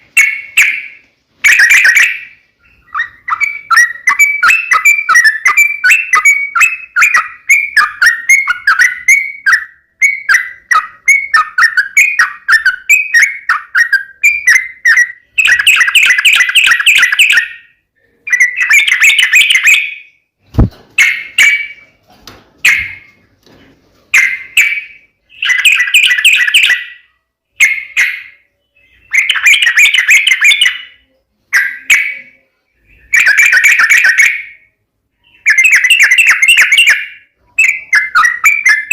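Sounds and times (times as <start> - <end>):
bird singing chirps and warbles: 0.0 - 22.0, 24.1 - 38.9.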